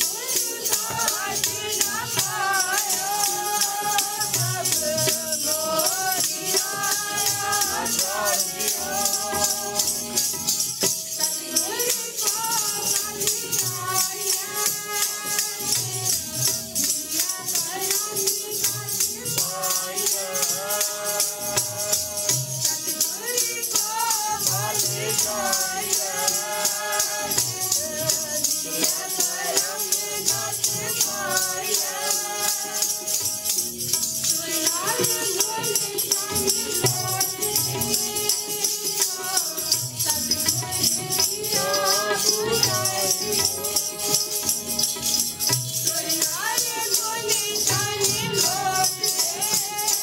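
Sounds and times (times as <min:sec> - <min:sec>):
fast jingling percussion: 0:00.0 - 0:50.0
voices singing a devotional hymn: 0:00.0 - 0:50.0.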